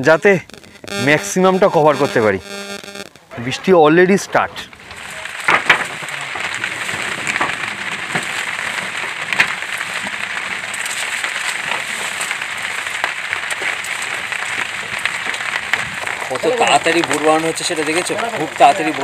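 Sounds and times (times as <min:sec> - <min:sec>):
rain pattering on cloth canopy: 0:00.0 - 0:19.0.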